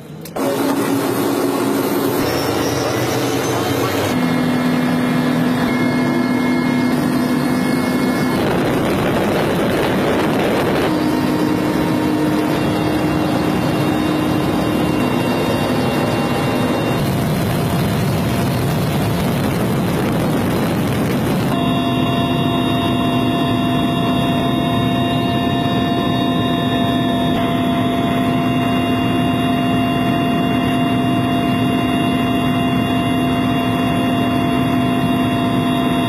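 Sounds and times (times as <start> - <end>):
helicopter engine and rotor noise: 0.0 - 36.0.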